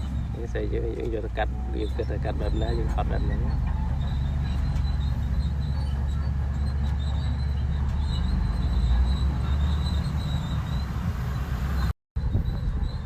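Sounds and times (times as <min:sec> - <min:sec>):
bulldozer diesel engine rumbling: 0:00.0 - 0:13.0
thin high squeak: 0:01.6 - 0:13.0.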